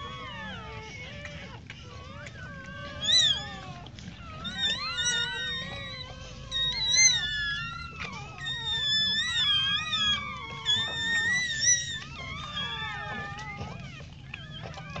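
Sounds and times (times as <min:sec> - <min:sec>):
puppies squealing and whimpering: 0:00.0 - 0:15.0.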